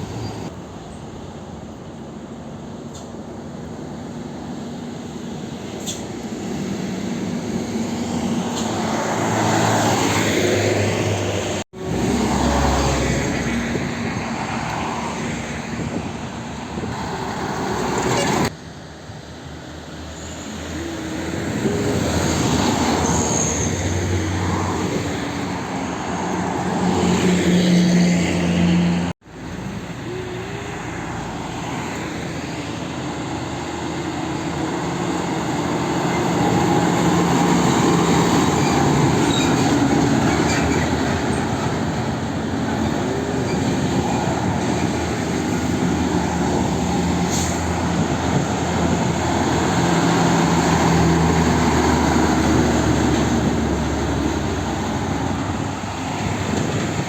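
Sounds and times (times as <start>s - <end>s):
diesel trucks passing: 0.0s - 57.0s.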